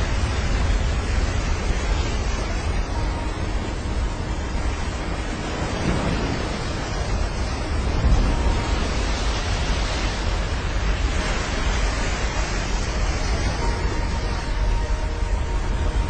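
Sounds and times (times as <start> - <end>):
heavy ocean surf breaking: 0.0 - 16.0
wind buffeting microphone: 0.0 - 16.0.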